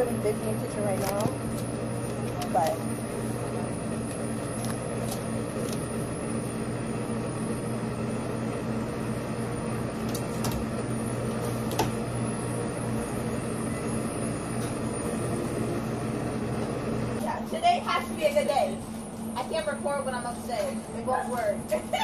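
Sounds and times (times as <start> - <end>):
kitchen equipment humming: 0.0 - 22.0.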